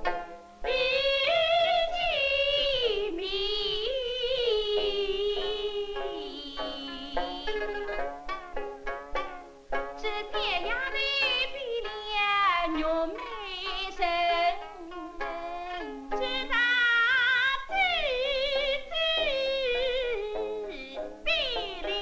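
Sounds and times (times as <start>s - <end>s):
plucked lutes: 0.0s - 22.0s
woman singing with vibrato: 0.6s - 8.0s, 10.0s - 22.0s.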